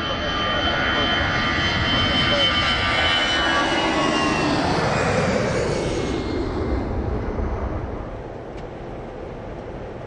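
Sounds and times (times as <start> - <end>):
jet engine high whine: 0.0 - 10.0
jet engines roaring: 0.0 - 10.0.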